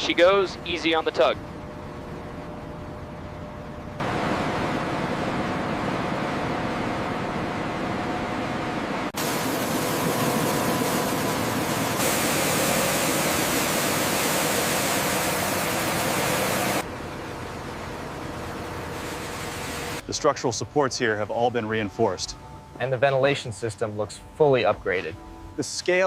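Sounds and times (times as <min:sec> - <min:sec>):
faint machine hum: 0:00.0 - 0:26.0.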